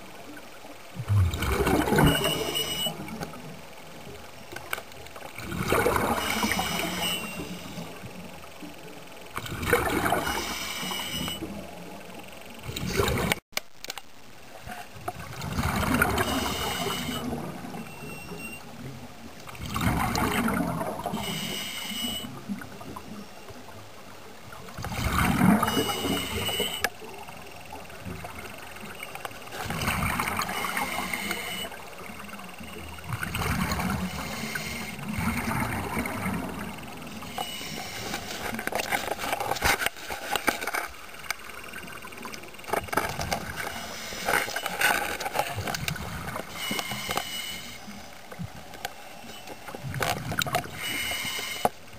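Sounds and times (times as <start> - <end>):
low underwater wash: 0.0 - 13.4, 14.1 - 51.9
underwater gurgling bubbling: 0.0 - 13.4, 14.3 - 51.9.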